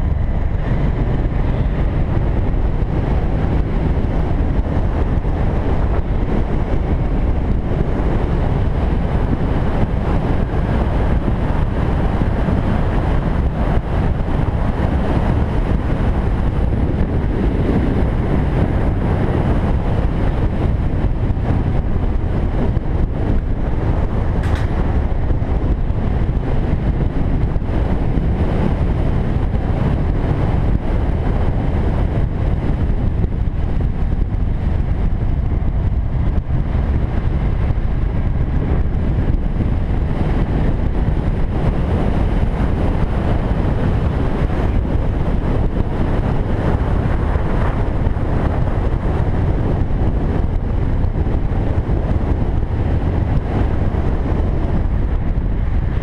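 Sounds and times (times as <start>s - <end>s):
motorcycle riding at speed: 0.0s - 56.0s
wind buffeting microphone: 0.0s - 56.0s.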